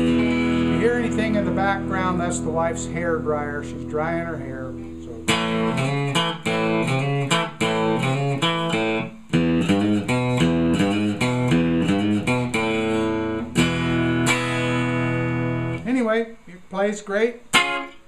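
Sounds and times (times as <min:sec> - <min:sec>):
electric guitar notes and chords: 0:00.0 - 0:15.8, 0:17.5 - 0:18.0.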